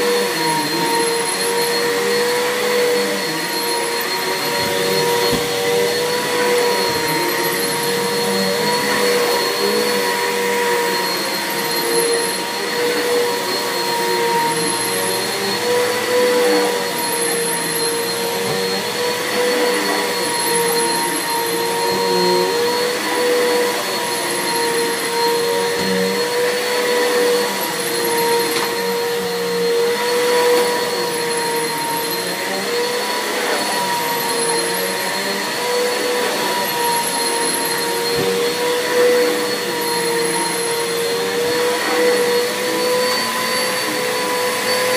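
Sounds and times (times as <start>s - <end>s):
vacuum cleaner running on carpet: 0.0s - 44.9s.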